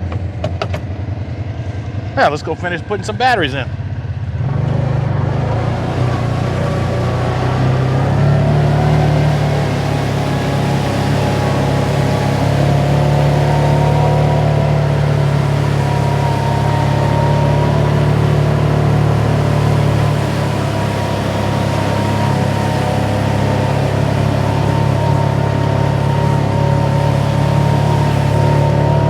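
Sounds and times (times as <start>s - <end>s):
engine droning with whine: 0.0s - 29.0s.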